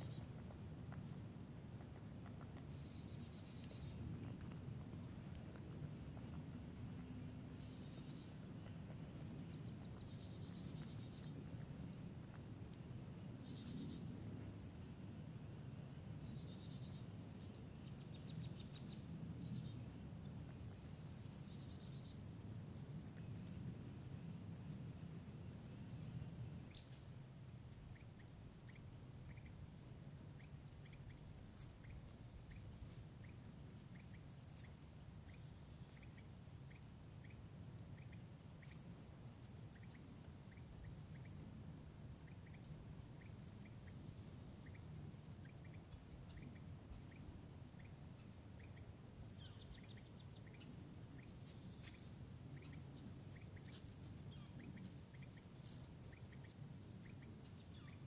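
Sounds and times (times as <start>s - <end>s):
faint low rumble: 0.0s - 58.0s
small birds chipping: 0.0s - 58.0s.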